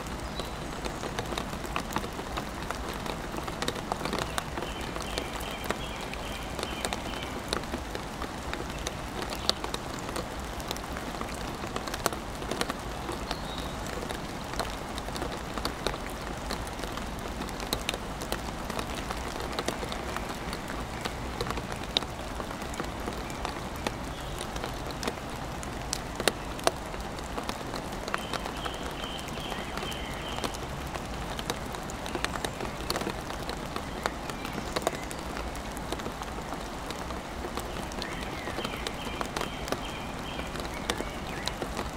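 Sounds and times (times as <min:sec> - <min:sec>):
rain on wood: 0:00.0 - 0:41.9.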